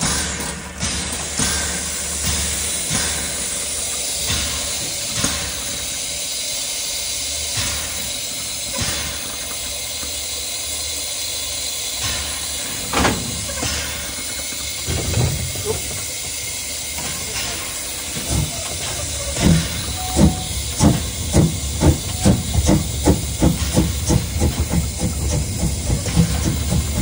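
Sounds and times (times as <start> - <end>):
steam locomotive hissing: 0.0 - 27.0
steam puffs: 0.0 - 27.0.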